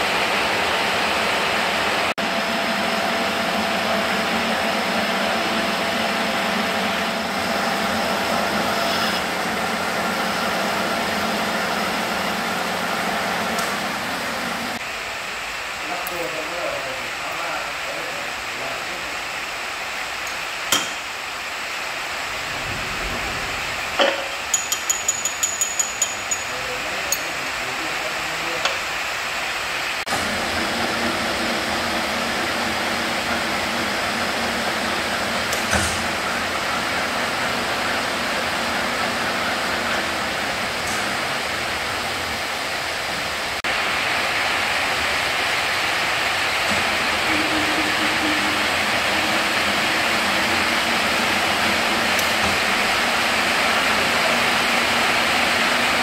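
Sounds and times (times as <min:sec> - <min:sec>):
metalworking machine running: 0:00.0 - 0:56.0
workshop hiss: 0:00.0 - 0:56.0.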